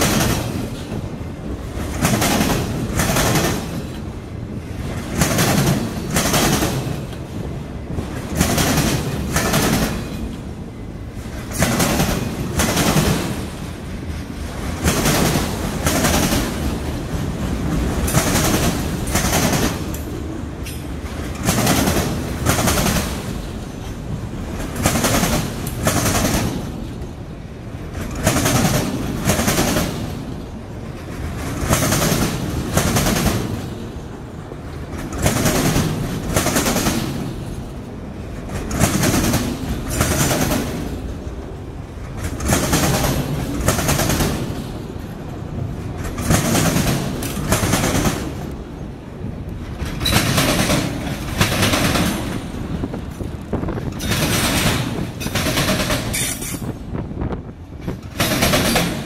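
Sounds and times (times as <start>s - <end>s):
train rumble: 0.0s - 59.0s
train wheels clacking over rail joints: 0.0s - 59.0s.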